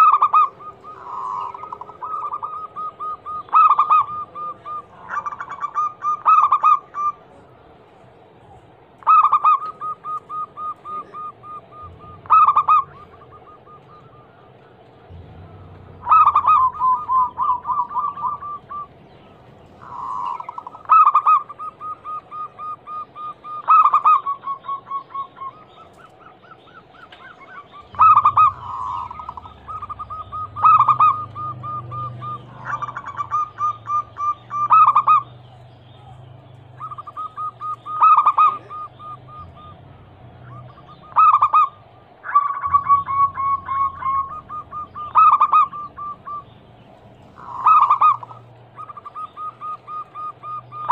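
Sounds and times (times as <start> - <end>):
doves cooing: 0.0 - 50.9.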